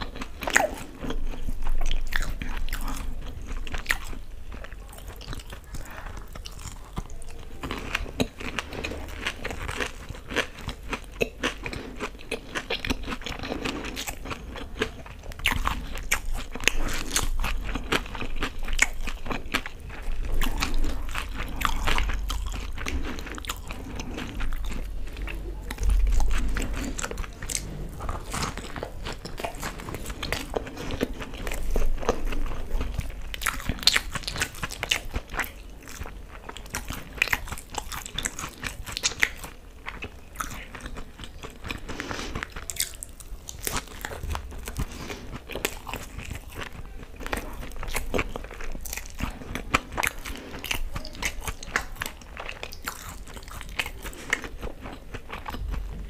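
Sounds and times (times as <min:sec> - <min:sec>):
chewing crisp fried food: 0:00.0 - 0:56.0.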